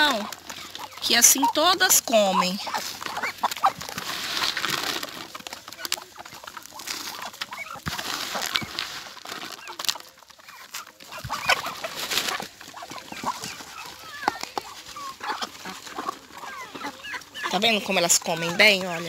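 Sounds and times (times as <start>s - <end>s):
beaks pecking feed: 0.0s - 19.0s
chickens clucking: 0.0s - 19.0s.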